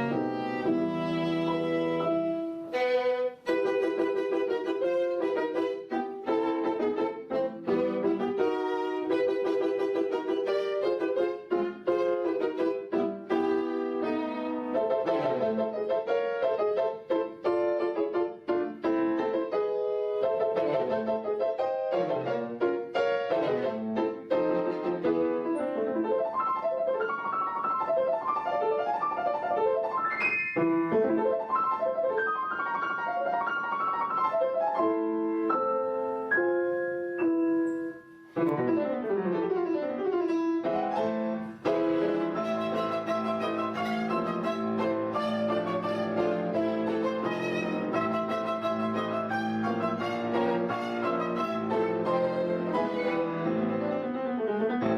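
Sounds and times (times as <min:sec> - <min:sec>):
piano music: 0:00.0 - 0:54.9.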